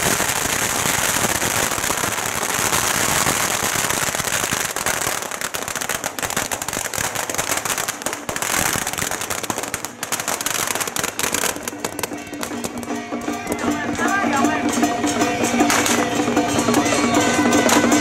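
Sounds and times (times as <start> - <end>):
firecrackers going off: 0.0 - 18.0.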